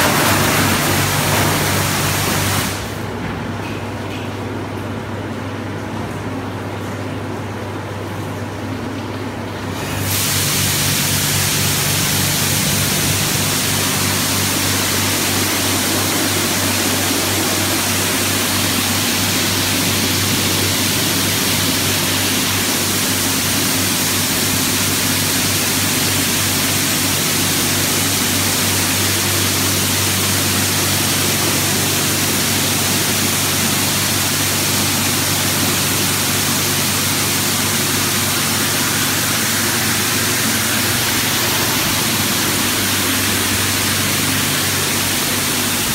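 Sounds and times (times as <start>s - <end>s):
water jets hissing on car: 0.0s - 3.1s, 9.7s - 45.9s.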